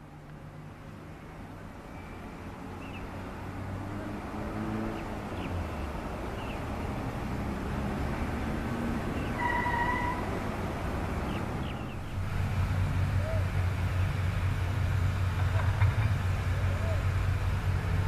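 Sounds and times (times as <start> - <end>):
distant engine rumble: 3.5 - 18.0.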